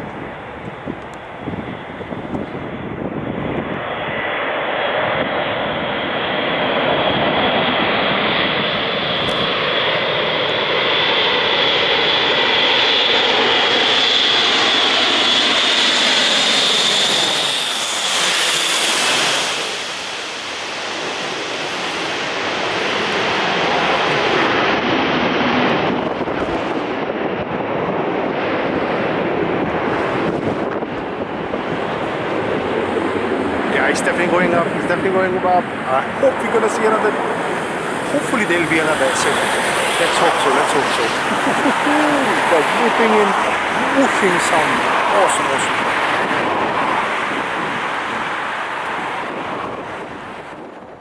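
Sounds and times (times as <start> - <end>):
turboprop aircraft flying over: 0.0 - 51.0.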